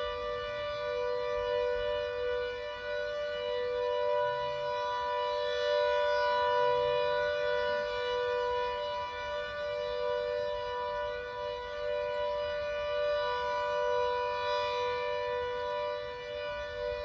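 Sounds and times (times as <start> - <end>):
warning siren two-note chord: 0.0 - 17.0.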